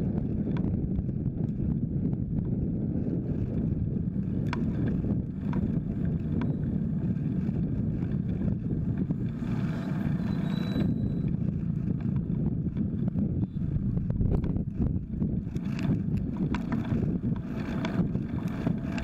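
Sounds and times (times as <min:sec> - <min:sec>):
road traffic: 0:00.0 - 0:19.0
wind rumbling on microphone: 0:00.0 - 0:19.0.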